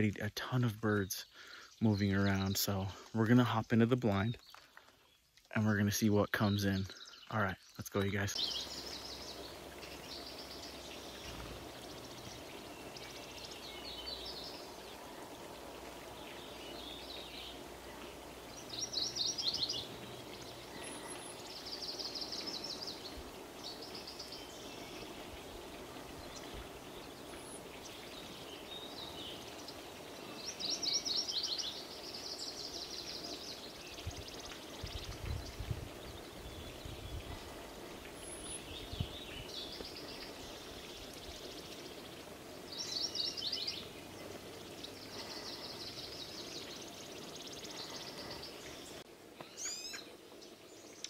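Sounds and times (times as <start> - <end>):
songbirds singing: 0.0 - 51.0
rain pattering: 2.0 - 49.4.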